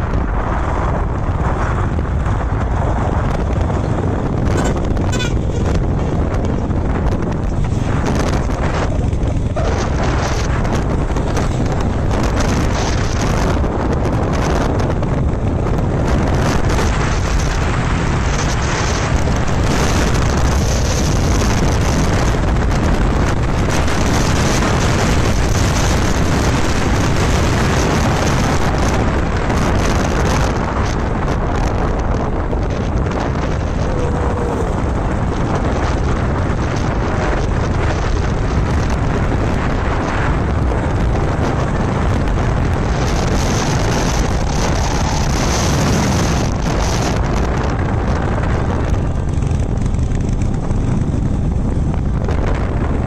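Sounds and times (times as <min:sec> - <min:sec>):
motorcycle engine: 0:00.0 - 0:53.0
road noise: 0:00.0 - 0:53.0
wind rush on microphone: 0:00.0 - 0:53.0.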